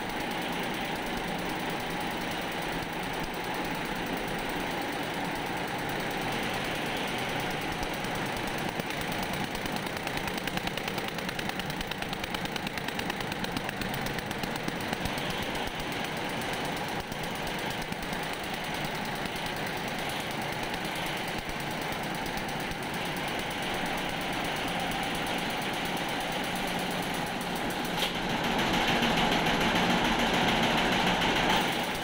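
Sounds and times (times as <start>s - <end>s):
embroidery machine clattering: 0.0s - 32.0s.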